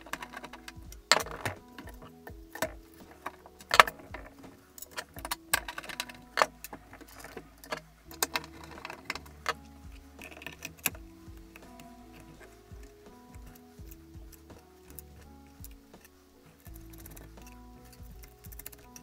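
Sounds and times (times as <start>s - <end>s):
screws and screwdriver clinking on metal: 0.0s - 19.0s.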